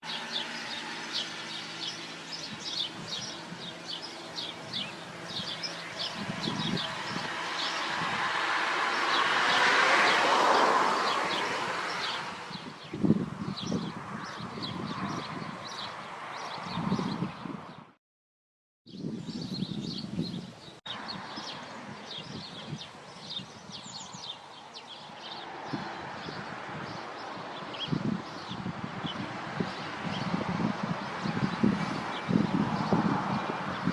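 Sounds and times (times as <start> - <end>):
small birds chirping: 0.0 - 8.1, 8.9 - 17.8, 18.9 - 33.9.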